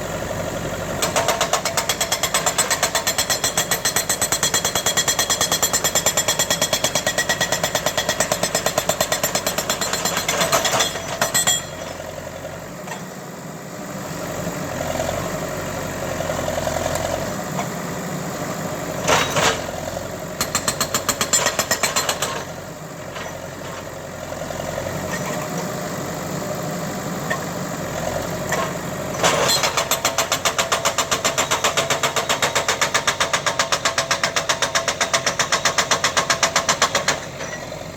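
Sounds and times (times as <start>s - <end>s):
tractor diesel engine running: 0.0s - 21.1s, 21.7s - 37.9s.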